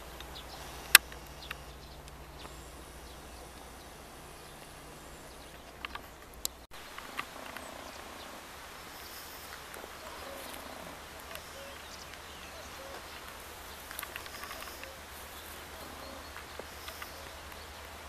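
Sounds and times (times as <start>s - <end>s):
light clicks: 0.0s - 3.7s, 4.4s - 7.7s, 9.5s - 18.0s
faint birdsong: 0.0s - 18.0s
insects: 0.0s - 18.0s
low background hiss: 0.0s - 18.0s
low hum: 0.0s - 18.0s.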